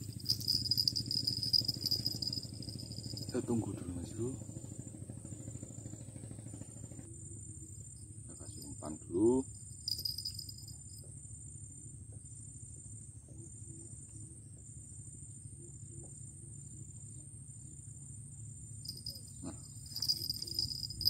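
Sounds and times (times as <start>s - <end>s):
insects buzzing: 0.0s - 21.0s
low background rumble: 0.0s - 21.0s.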